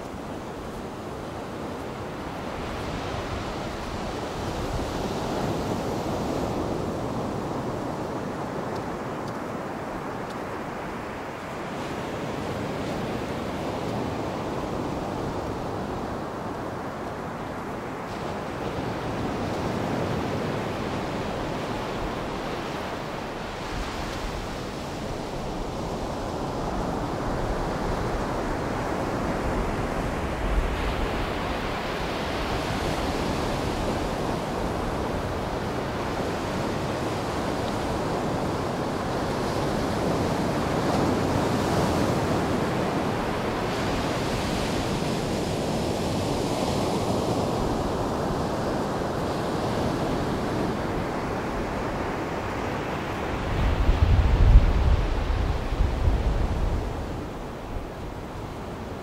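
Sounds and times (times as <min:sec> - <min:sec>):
surf washing onto a beach: 0:00.0 - 0:59.0.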